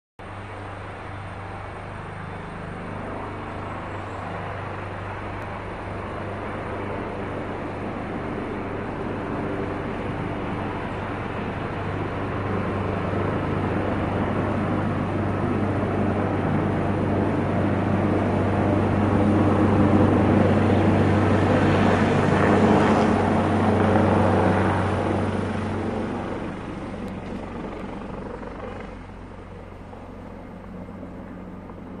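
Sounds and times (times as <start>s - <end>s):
helicopter rotor drone: 0.2s - 32.0s.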